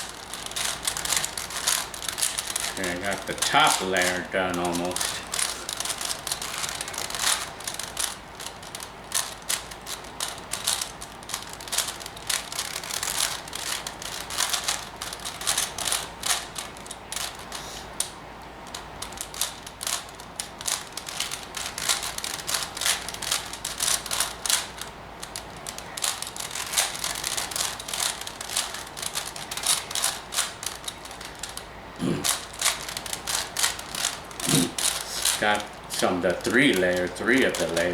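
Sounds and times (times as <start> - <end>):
puzzle cube clicking: 0.0 - 37.9.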